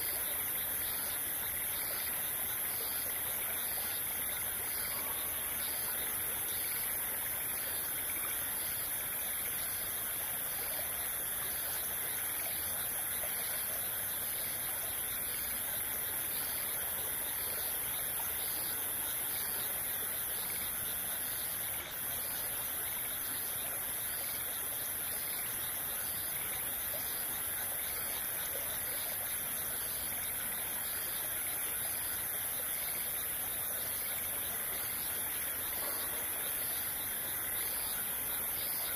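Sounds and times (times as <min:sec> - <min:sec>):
small stream rushing: 0:00.0 - 0:38.9.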